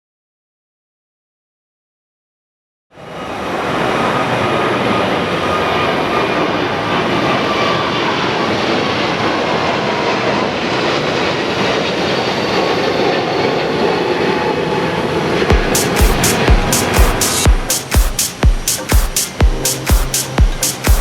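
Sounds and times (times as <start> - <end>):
jet engines rushing: 3.0 - 21.0.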